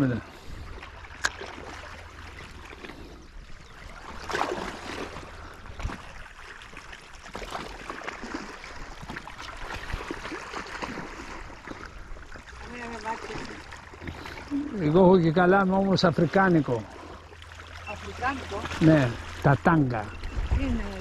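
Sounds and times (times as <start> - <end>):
sea water lapping: 0.0 - 21.0
small water splashes: 0.0 - 21.0.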